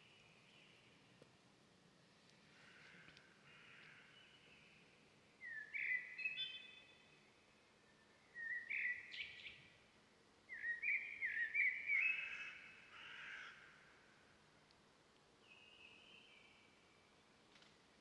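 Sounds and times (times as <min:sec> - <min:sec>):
faint forest background: 0:00.0 - 0:18.0.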